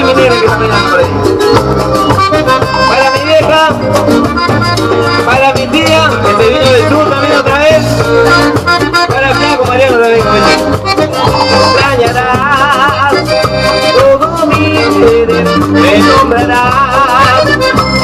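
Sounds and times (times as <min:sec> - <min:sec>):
accordion-like lead melody: 0:00.0 - 0:18.0
bass: 0:00.0 - 0:18.0
percussion and shakers: 0:00.0 - 0:18.0.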